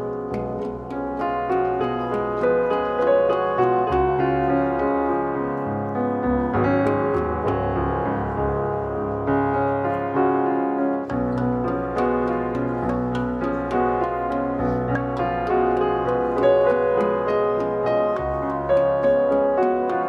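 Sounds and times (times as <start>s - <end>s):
background piano music: 0.0s - 20.0s.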